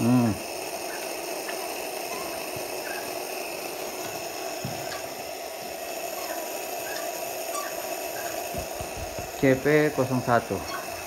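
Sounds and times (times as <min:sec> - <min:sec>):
fuel pump whirring: 0:00.0 - 0:11.0.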